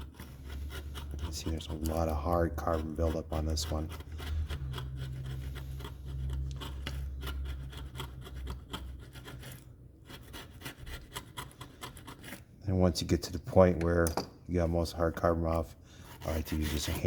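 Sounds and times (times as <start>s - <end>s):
hand scraping carbon off metal: 0.0s - 12.5s, 15.3s - 17.0s.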